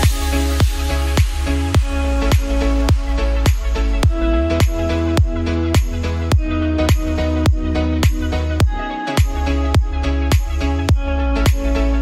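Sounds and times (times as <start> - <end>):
electronic music with kick-drum beat: 0.0 - 12.0.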